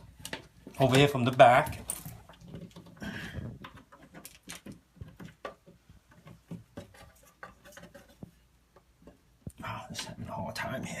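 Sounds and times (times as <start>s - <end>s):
handling clicks and rustles: 0.0s - 9.2s.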